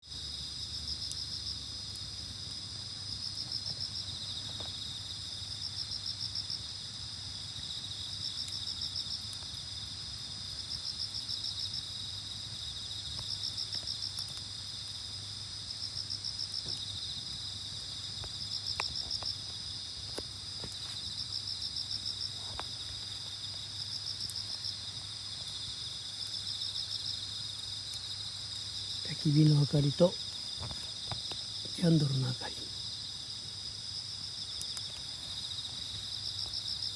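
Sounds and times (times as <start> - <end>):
insects chorus: 0.0 - 36.9.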